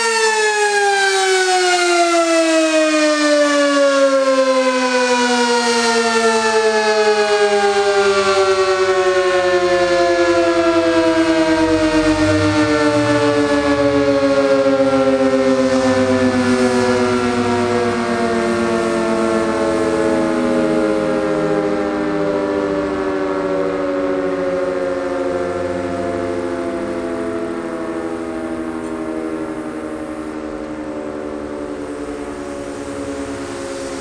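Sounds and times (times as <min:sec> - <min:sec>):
warning siren winding down: 0:00.0 - 0:34.0.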